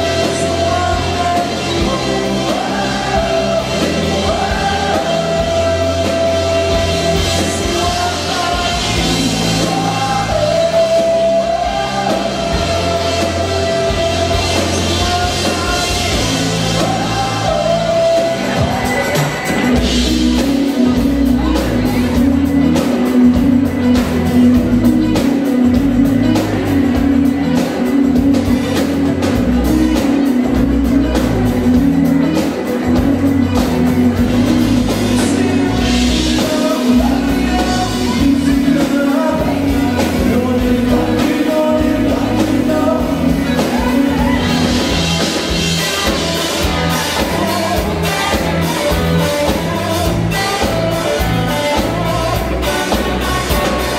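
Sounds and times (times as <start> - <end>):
person singing: 0.0 - 53.9
rock band playing: 0.0 - 53.9.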